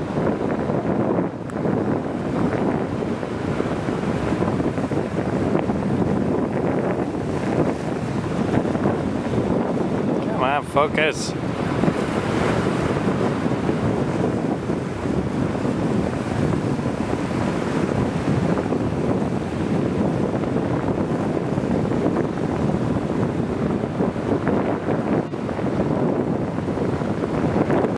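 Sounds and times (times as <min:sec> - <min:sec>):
waves washing: 0:00.0 - 0:27.9
wind buffeting microphone: 0:00.0 - 0:27.9.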